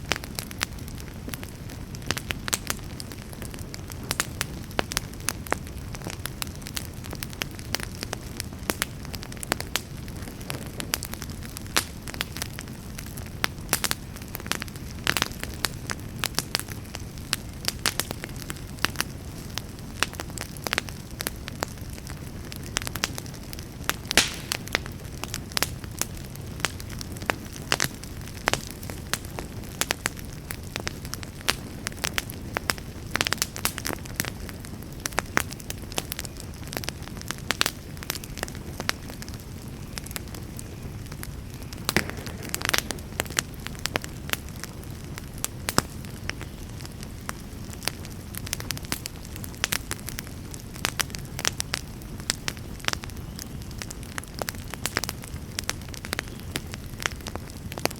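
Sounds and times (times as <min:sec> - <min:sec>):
campfire crackling and popping: 0:00.0 - 0:57.9
low rumble of flames: 0:00.0 - 0:57.9.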